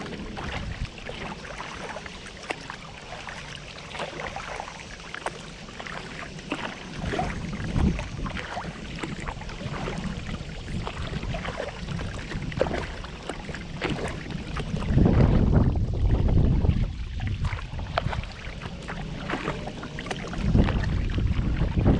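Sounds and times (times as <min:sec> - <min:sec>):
paddle splashing water: 0:00.0 - 0:21.9
wind rumbling on microphone: 0:00.0 - 0:21.9.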